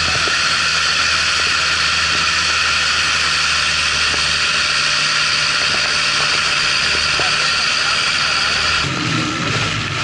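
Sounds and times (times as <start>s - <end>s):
motorboat engine humming: 0.0s - 10.0s.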